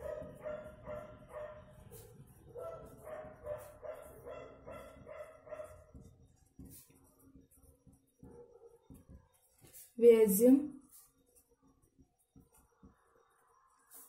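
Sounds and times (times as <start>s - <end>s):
marker pen scratching paper: 0.0s - 10.0s, 10.8s - 14.0s.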